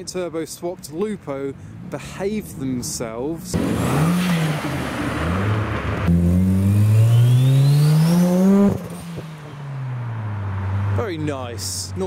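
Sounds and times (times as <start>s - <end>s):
car engine accelerating: 1.6s - 11.4s.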